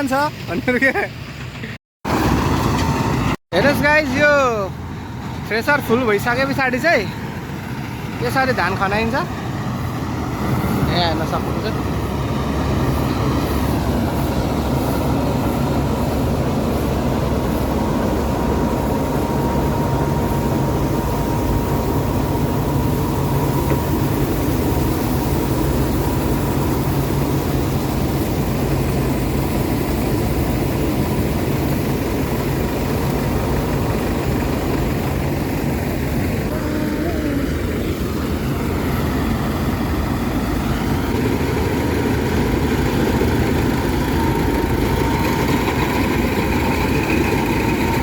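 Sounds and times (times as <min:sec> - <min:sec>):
combine harvester engine running: 0:00.0 - 0:48.0.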